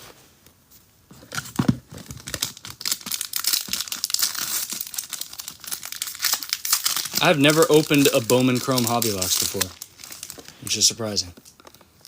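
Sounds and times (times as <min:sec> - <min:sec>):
foil wrapper tearing and crinkling: 0:02.0 - 0:11.9.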